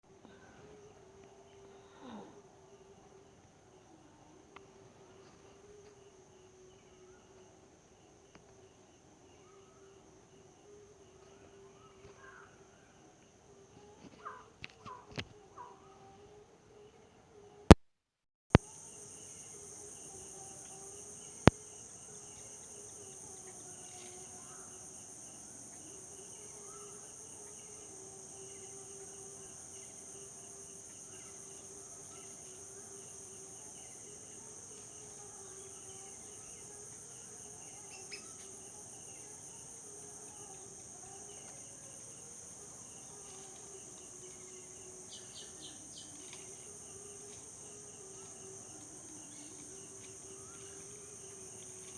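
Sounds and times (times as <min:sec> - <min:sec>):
high-pitched insect chorus: 0:00.1 - 0:17.0, 0:18.6 - 0:51.9.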